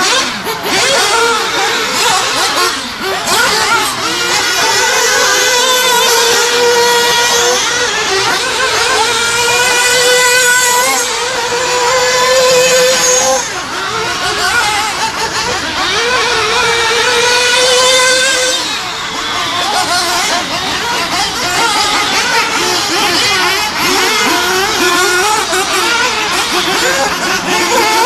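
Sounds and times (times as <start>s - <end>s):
small two-stroke engines racing: 0.0s - 28.0s.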